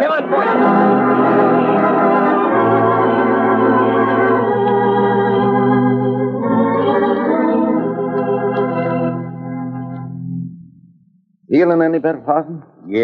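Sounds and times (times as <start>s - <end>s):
organ chords: 0.0s - 12.5s.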